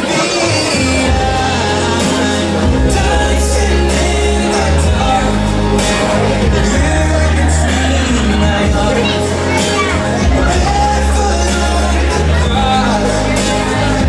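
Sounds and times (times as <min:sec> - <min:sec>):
pop-rock music with singing: 0:00.0 - 0:14.0.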